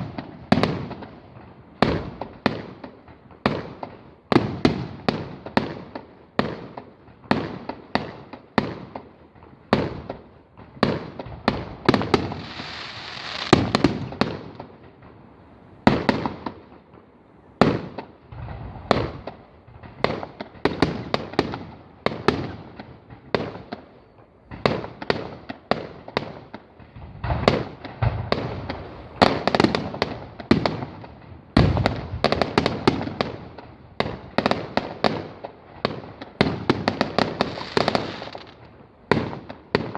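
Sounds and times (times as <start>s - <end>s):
crackling hiss: 0.0s - 39.9s
fireworks bursting: 0.0s - 39.9s.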